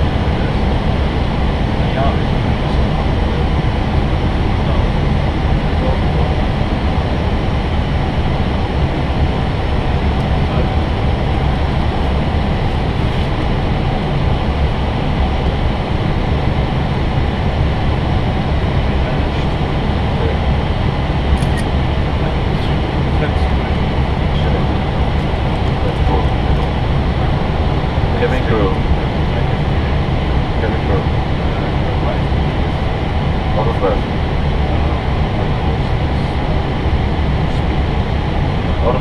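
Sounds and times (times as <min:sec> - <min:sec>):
airplane cockpit rumble: 0:00.0 - 0:39.0.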